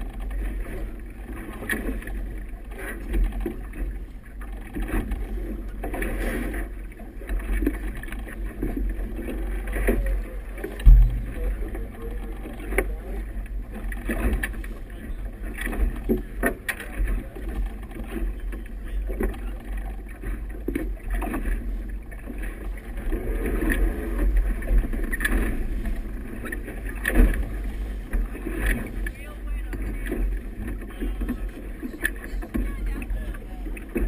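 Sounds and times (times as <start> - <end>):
water slapping boat hull: 0.0 - 34.0
wind rumble on microphone: 0.0 - 34.0.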